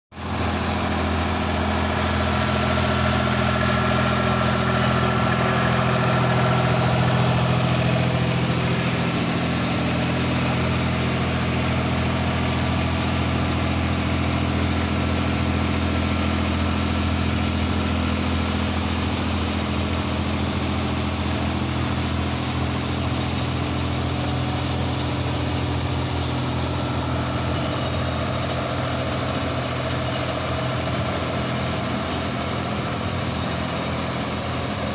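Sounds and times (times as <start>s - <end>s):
tractor engine running: 0.1s - 34.9s
rotating sweeper brushes: 0.2s - 34.9s.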